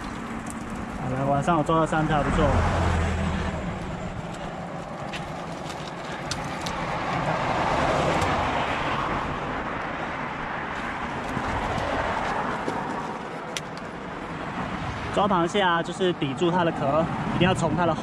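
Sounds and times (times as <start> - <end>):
road traffic noise: 0.0 - 18.0
vehicle passing: 0.0 - 18.0.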